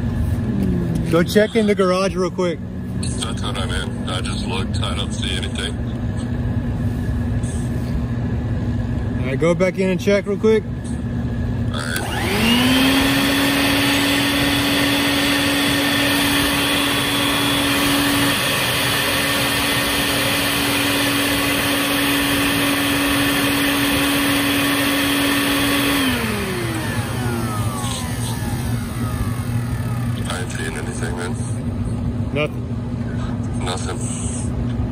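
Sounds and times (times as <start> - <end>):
shop vac whine: 0.0 - 34.9.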